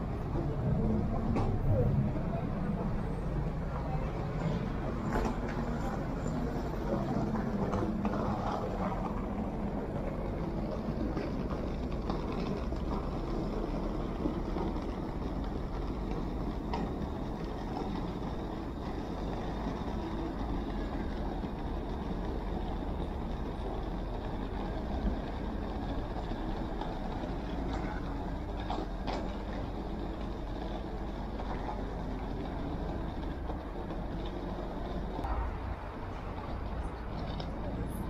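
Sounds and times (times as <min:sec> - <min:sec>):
hum of passing vehicles: 0:00.0 - 0:38.0.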